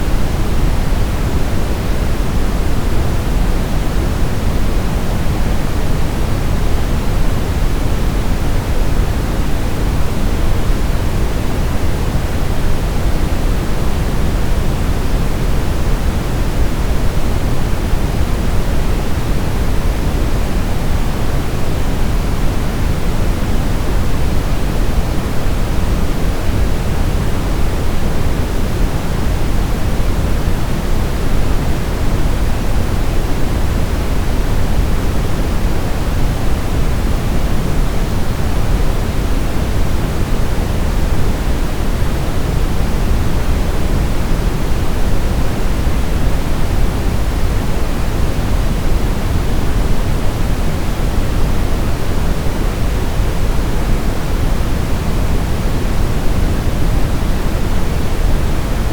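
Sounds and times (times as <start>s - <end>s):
loud brown noise hiss: 0.0s - 58.9s.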